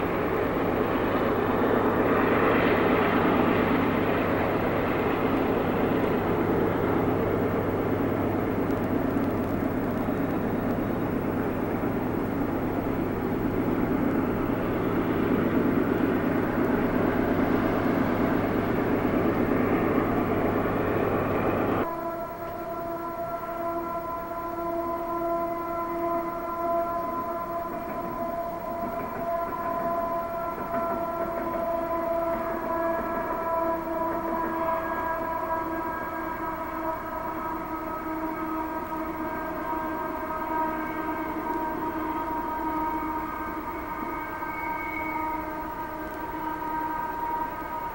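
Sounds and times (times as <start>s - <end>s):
diesel locomotive engines droning: 0.0s - 47.9s.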